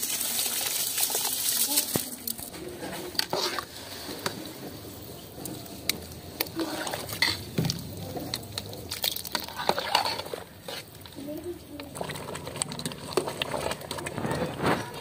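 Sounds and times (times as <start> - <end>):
boiling water: 0.0 - 15.0
metal skimmer scraping pot: 1.0 - 15.0.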